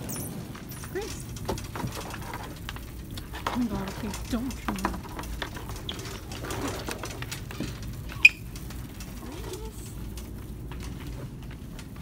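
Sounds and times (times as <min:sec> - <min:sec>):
shopping cart rattling: 0:00.0 - 0:12.0.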